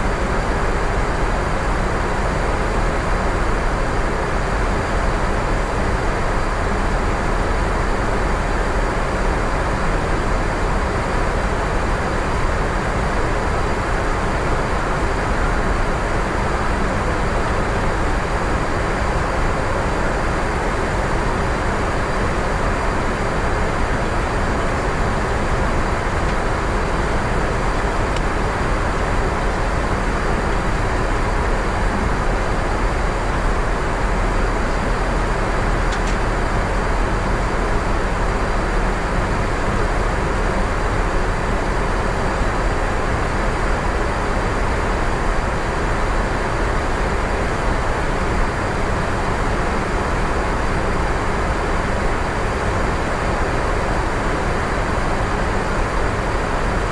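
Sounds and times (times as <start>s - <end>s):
airflow and jet engines rushing: 0.0s - 56.9s.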